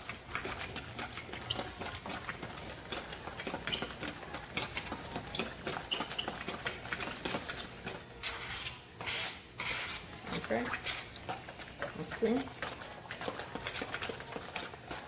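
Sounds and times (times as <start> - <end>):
fork scraping plastic bowl: 0.4 - 14.8.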